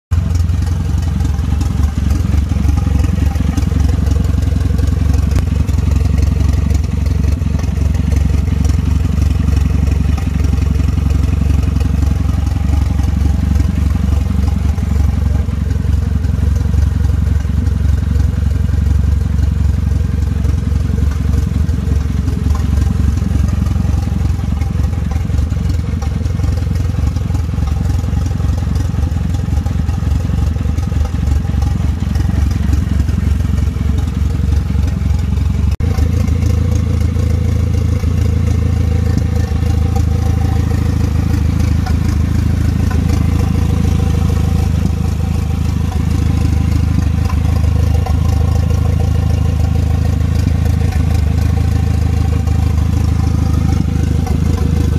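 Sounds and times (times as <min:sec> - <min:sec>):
car engine idling without exhaust: 0:00.1 - 0:54.9.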